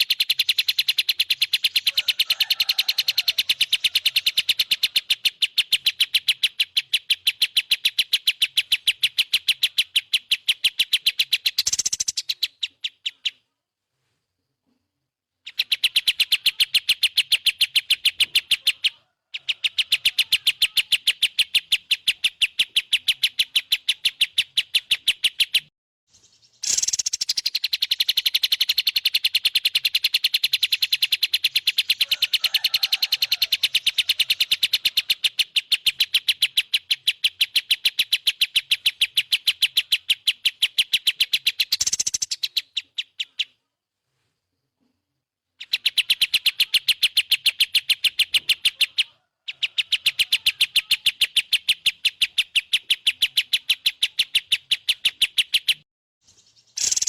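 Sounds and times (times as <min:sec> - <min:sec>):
songbird fast high chirping: 0:00.0 - 0:13.6, 0:15.4 - 0:43.7, 0:45.5 - 0:57.0.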